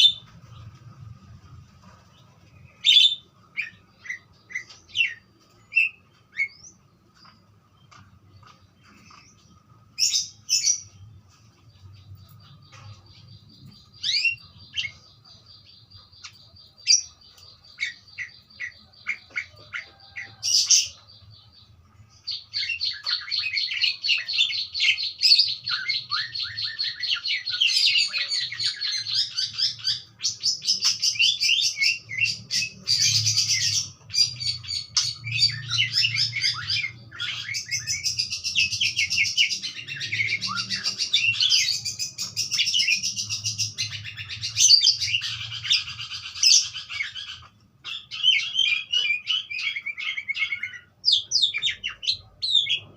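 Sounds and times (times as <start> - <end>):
budgerigars chirping and warbling: 0.0 - 0.8, 1.9 - 11.0, 11.6 - 52.9.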